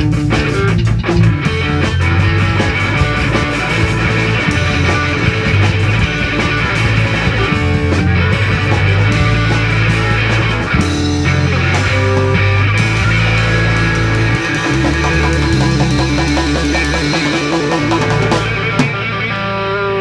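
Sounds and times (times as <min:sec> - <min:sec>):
rock music with guitar and bass: 0:00.0 - 0:20.0.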